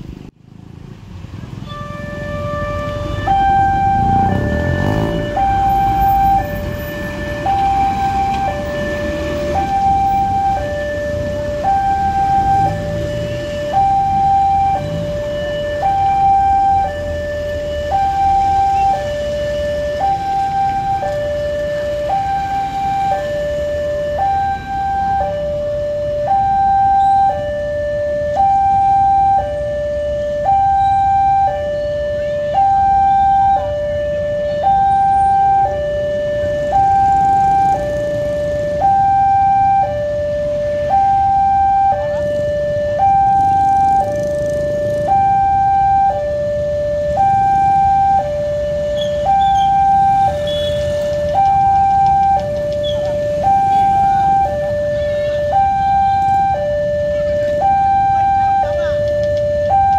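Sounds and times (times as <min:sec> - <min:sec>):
two-tone crossing alarm: 0:01.5 - 0:59.9.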